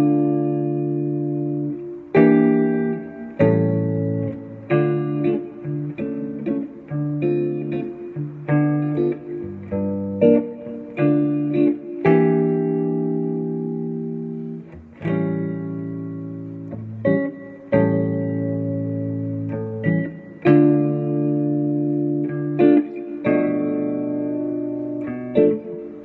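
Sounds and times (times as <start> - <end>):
electric guitar jazz ballad: 0.0 - 26.0.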